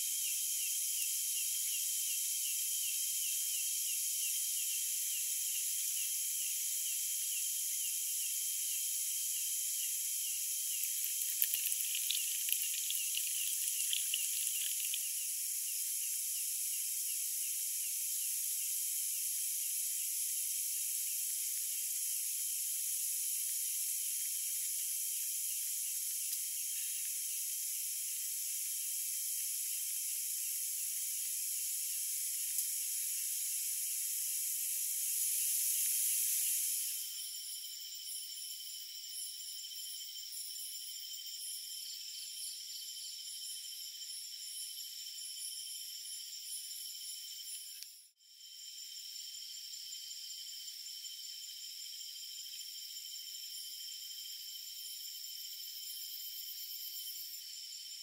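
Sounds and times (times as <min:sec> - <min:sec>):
crickets and katydids trilling: 0:00.0 - 0:47.8, 0:48.4 - 0:58.0.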